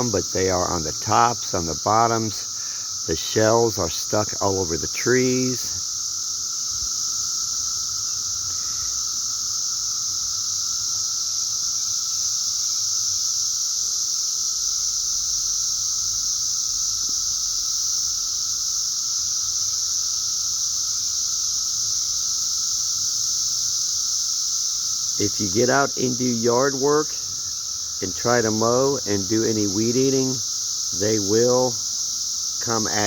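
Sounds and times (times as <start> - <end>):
cicadas singing: 0.0 - 33.0.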